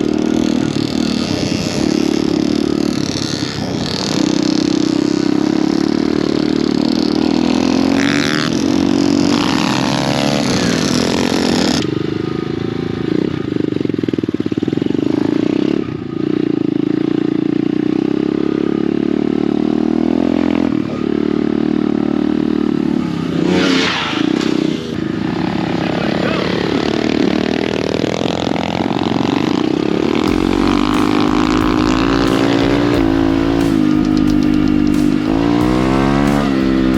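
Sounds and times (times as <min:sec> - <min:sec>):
pit bike engine running: 0:00.0 - 0:36.9.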